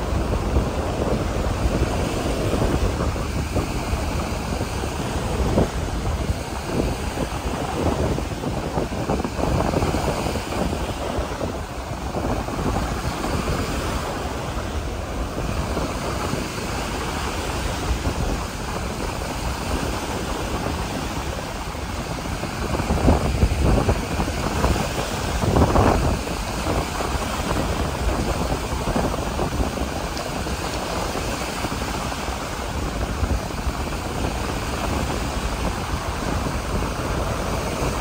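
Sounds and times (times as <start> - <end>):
ocean surf: 0.0 - 38.0
wind buffeting microphone: 0.0 - 38.0.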